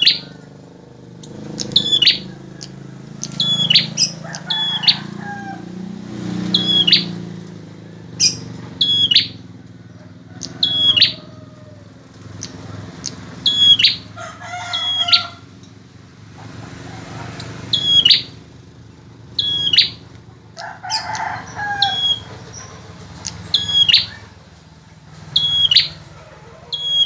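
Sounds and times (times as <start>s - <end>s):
bird singing high chirping calls: 0.0s - 0.5s, 1.1s - 7.4s, 8.0s - 9.8s, 10.4s - 11.4s, 12.3s - 15.6s, 17.4s - 24.6s, 25.3s - 27.0s.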